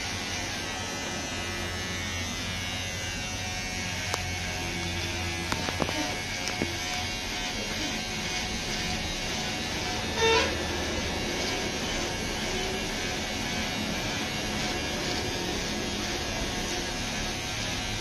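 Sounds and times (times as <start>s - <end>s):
electric hair clipper running: 0.0s - 18.0s.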